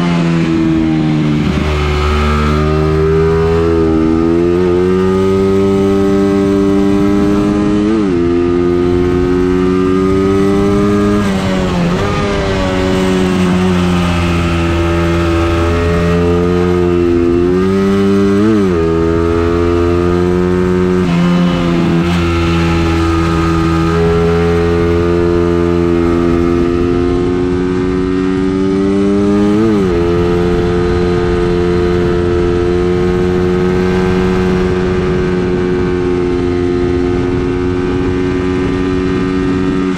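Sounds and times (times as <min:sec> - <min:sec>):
race car engine under load: 0:00.1 - 0:36.0.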